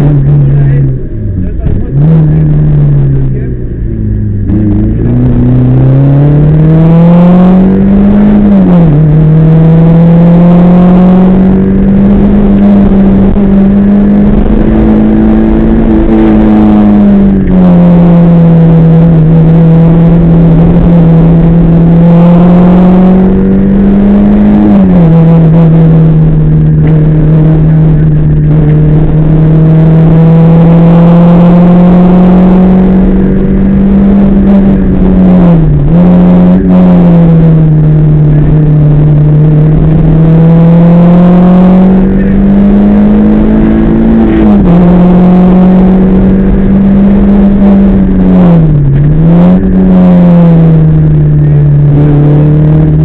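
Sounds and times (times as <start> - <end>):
car engine at high revs: 0.0 - 53.0.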